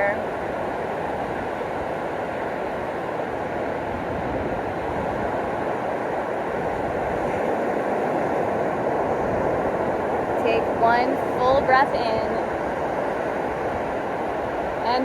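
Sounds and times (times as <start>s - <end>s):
ocean surf washing onto beach: 0.0s - 15.0s.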